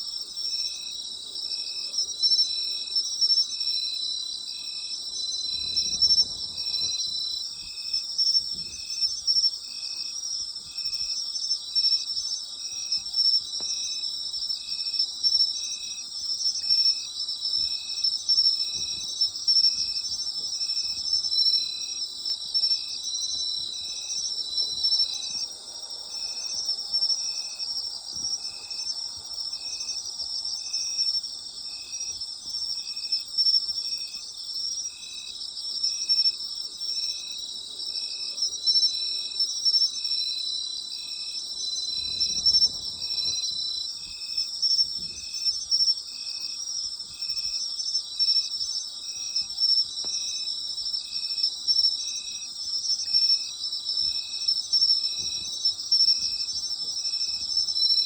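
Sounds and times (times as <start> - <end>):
insect chirping: 0.0 - 58.0
insects trilling: 0.0 - 58.0.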